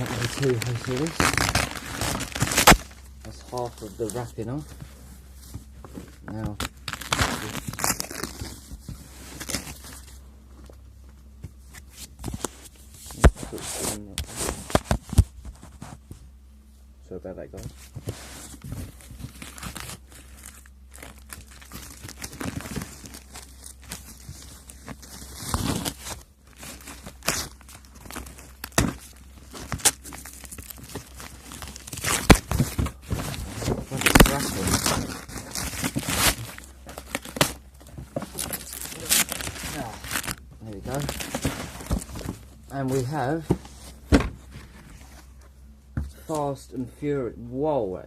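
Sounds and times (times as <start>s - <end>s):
parcel wrapping rustling: 0.0s - 16.1s, 17.6s - 46.7s.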